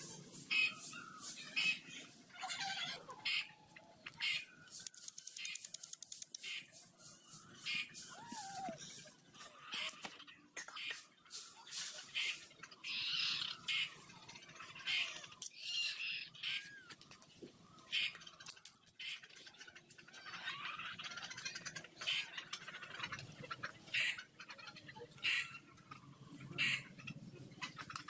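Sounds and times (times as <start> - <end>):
birds calling: 0.0 - 28.0.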